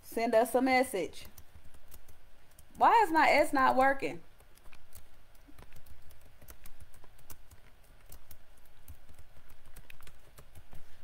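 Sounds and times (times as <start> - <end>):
computer keyboard typing: 1.1 - 11.0.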